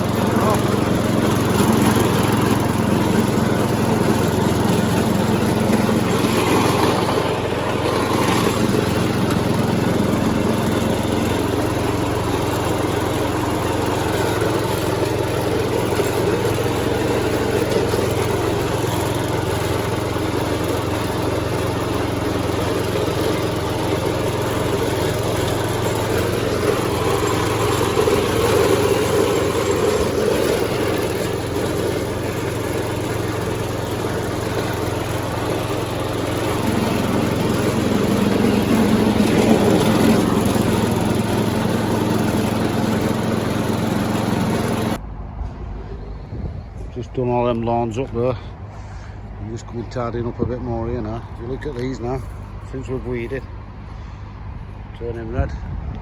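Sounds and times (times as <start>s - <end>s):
lawn mower engine running: 0.0s - 55.6s.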